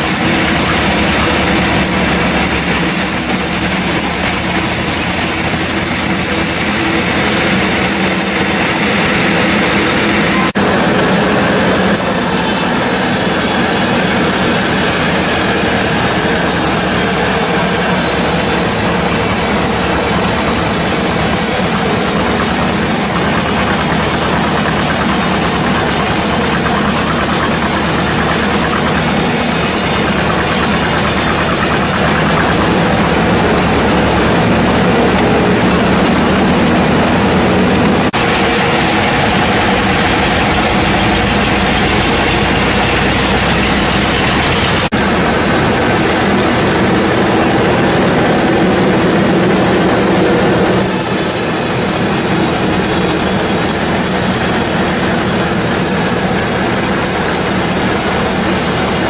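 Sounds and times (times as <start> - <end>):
sawmill saw and engine running: 0.0 - 59.0.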